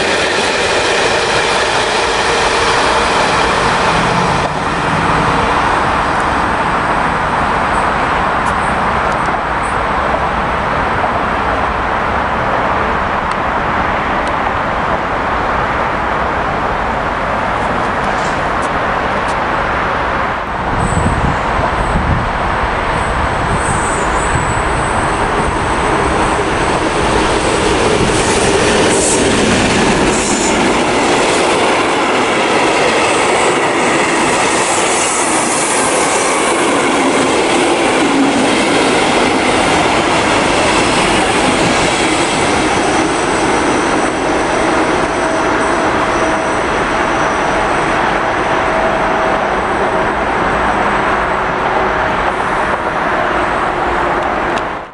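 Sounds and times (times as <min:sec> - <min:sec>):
diesel locomotive engine passing: 0:00.0 - 0:54.9
train wheels rumbling and clattering: 0:00.0 - 0:54.9.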